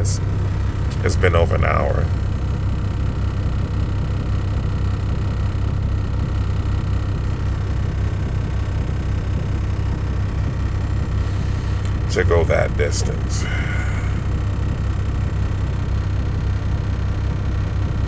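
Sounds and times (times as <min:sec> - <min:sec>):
vehicle cabin engine rumble: 0:00.0 - 0:18.0.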